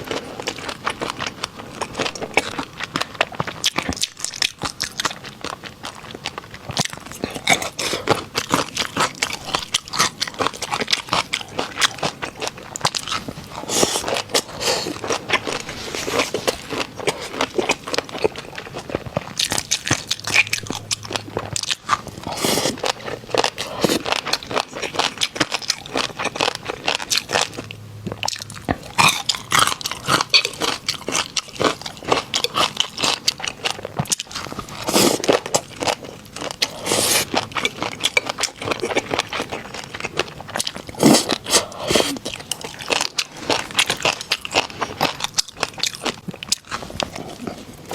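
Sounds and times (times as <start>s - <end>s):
person chewing crunchy snacks: 0.0s - 47.9s.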